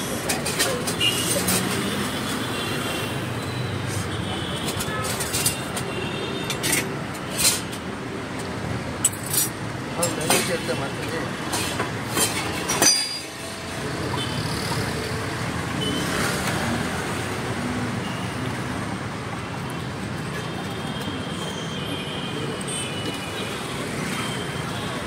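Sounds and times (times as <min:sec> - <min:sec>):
traffic hum: 0:00.0 - 0:25.0.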